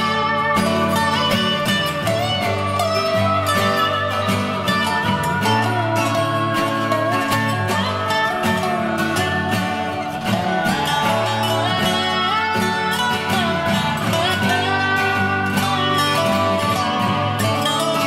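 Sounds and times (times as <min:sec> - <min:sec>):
country guitar music: 0:00.0 - 0:18.0.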